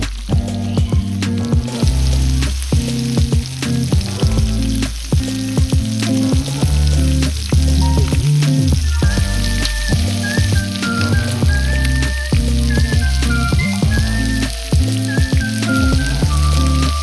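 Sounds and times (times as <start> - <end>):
background music with beat: 0.0 - 17.0
food sizzling in a pan: 0.0 - 17.0.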